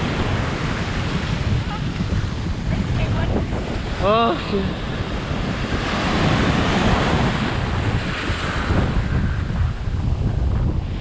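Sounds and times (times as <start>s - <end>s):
ocean surf washing on beach: 0.0s - 11.0s
wind buffeting microphone: 0.0s - 11.0s.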